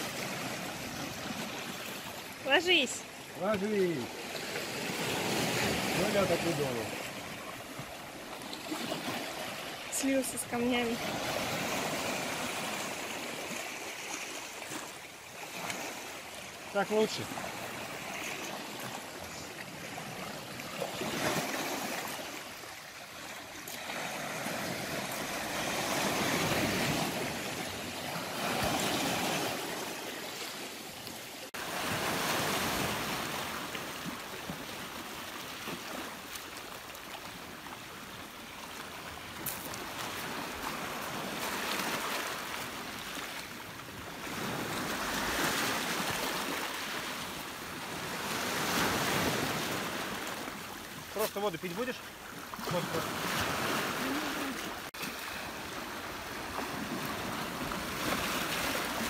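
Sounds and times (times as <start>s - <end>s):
waves washing over rocks: 0.0s - 59.0s.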